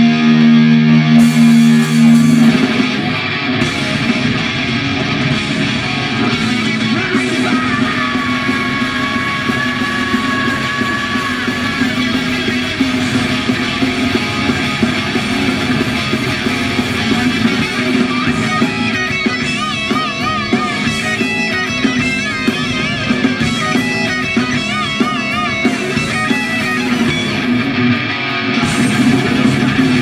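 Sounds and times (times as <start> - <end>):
heavy metal band playing: 0.0 - 30.0
lead guitar bent notes: 0.0 - 30.0.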